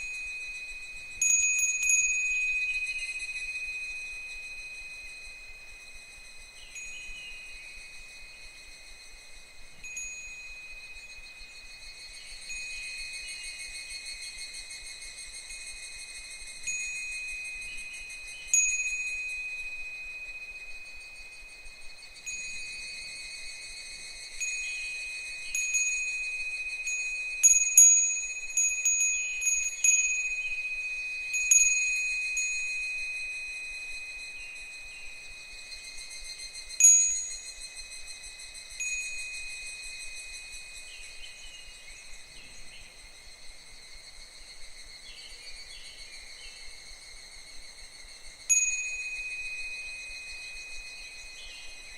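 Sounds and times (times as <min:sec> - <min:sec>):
wind chime ringing: 0:00.0 - 0:08.5, 0:09.8 - 0:14.4, 0:16.6 - 0:23.6, 0:24.3 - 0:42.8, 0:48.4 - 0:51.9
insect chorus: 0:00.0 - 0:51.9.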